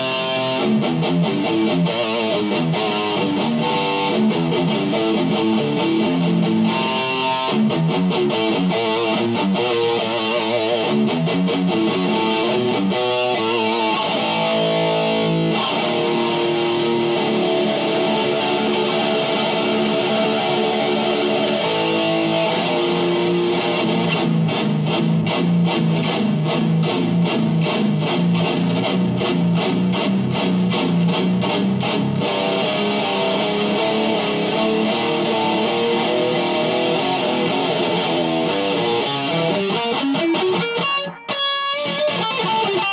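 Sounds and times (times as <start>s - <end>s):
distorted electric guitar riffs: 0.0s - 42.9s.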